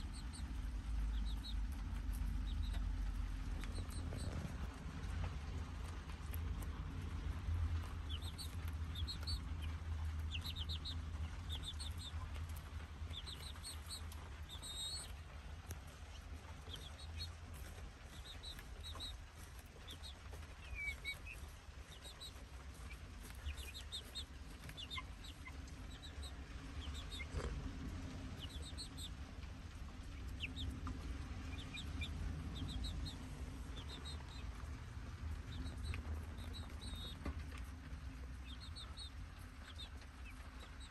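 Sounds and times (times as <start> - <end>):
chicks peeping: 0.0 - 40.9
low steady rumble: 0.0 - 40.9.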